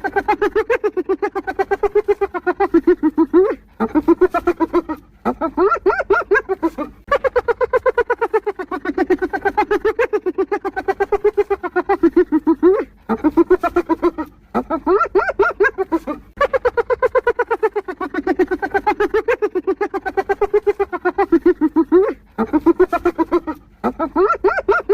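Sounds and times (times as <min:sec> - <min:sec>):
hyena laughing: 0:00.0 - 0:24.9.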